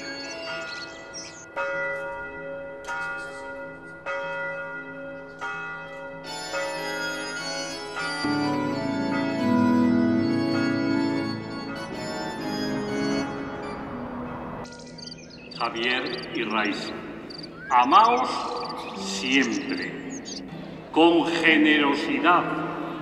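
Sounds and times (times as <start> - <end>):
church bell tolling: 0.0 - 23.0
organ music: 0.0 - 23.0.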